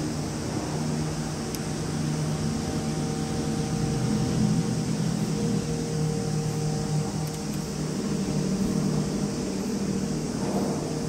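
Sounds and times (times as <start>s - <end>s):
high hiss: 0.0s - 11.0s
low mechanical hum: 0.0s - 11.0s.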